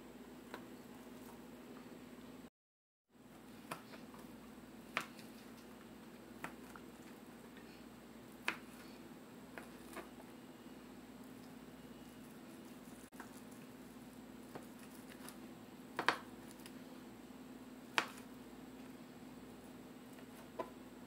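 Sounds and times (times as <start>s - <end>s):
steady low hum: 3.1s - 21.0s.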